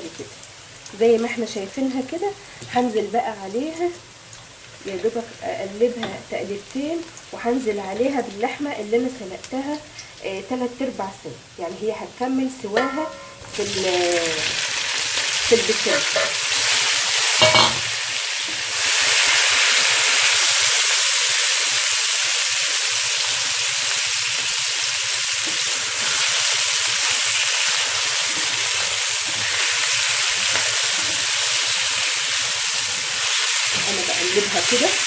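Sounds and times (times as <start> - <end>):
meat sizzling in a pot: 0.0 - 35.0.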